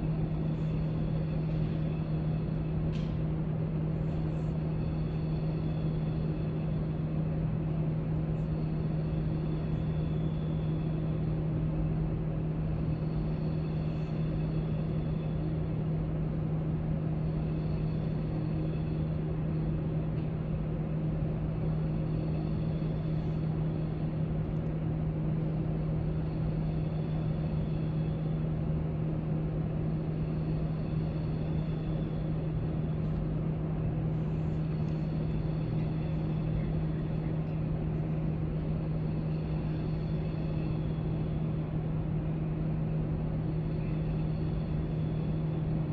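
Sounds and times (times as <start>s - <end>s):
low hum: 0.0s - 45.9s.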